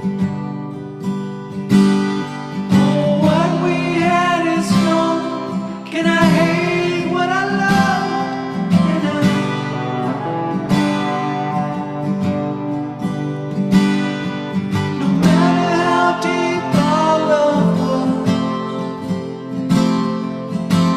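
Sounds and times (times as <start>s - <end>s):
acoustic guitar strumming: 0.0s - 20.9s
person singing: 2.3s - 19.5s.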